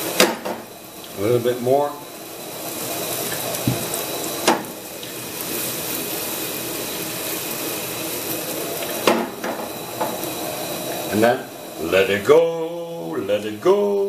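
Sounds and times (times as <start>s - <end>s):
batter sizzling in frying pan: 0.0s - 14.0s.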